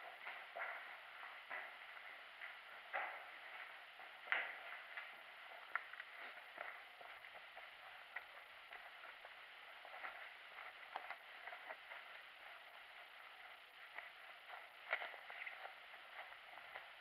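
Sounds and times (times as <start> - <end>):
low hiss: 0.0 - 17.0
footsteps crunching on gravel: 1.5 - 17.0.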